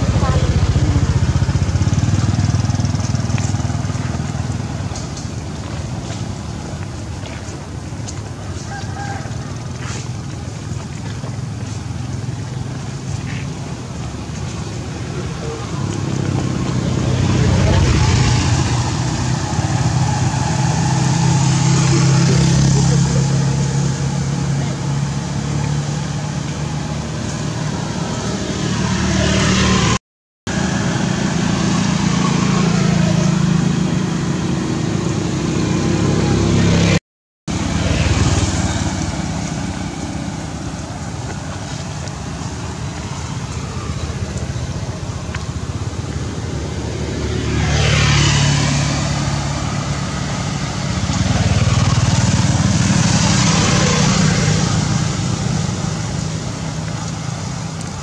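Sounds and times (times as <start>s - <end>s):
vehicles passing close by: 0.0s - 58.0s.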